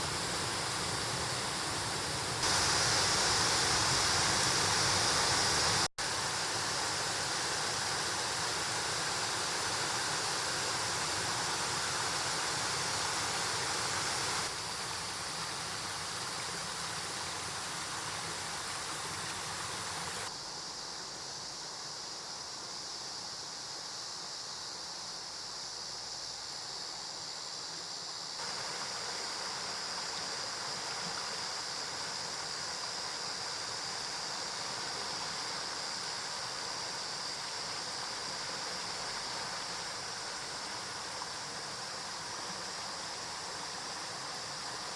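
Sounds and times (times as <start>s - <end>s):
mountain stream rushing: 0.0s - 20.3s, 28.4s - 44.9s.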